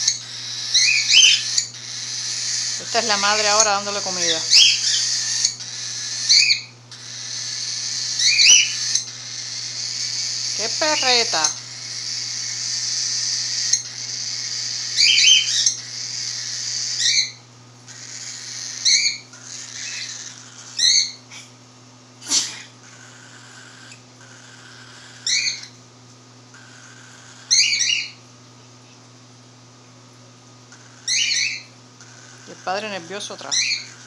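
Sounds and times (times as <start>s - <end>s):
baby cockatiel raspy hissing: 0.0s - 17.3s, 17.9s - 21.5s, 22.2s - 25.7s, 26.5s - 28.1s, 30.7s - 34.0s
baby cockatiel squawks: 0.0s - 21.2s, 22.3s - 25.8s, 26.6s - 28.2s, 30.7s - 34.0s.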